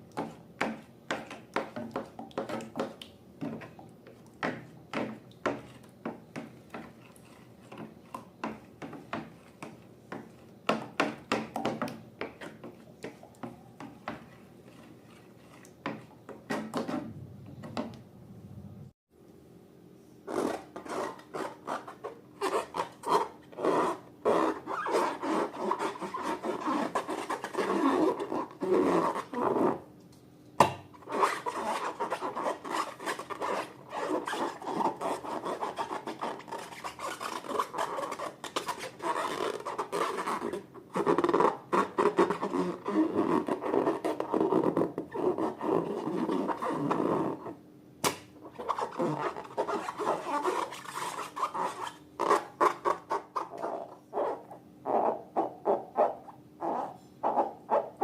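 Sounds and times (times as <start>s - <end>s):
slime stirred by hand: 0.0s - 17.3s, 20.2s - 29.9s, 31.0s - 47.6s, 48.4s - 53.9s.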